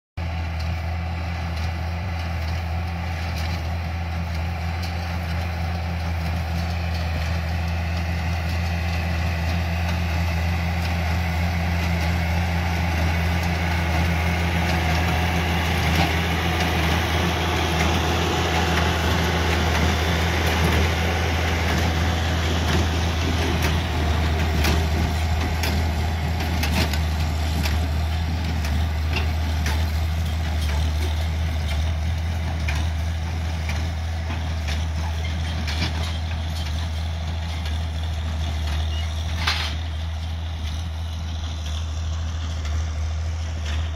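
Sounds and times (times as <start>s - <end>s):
hay baler clattering: 0.2s - 43.9s
tractor engine running: 0.2s - 43.9s.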